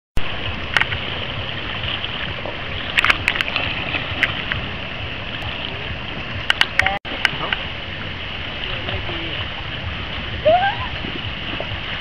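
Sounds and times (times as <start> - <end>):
low steady rumble: 0.2 - 12.0
seawater lapping and splashing: 0.2 - 12.0.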